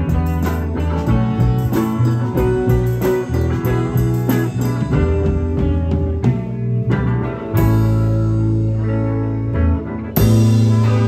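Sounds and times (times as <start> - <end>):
bass guitar: 0.0 - 11.0
electric guitar: 0.0 - 11.0.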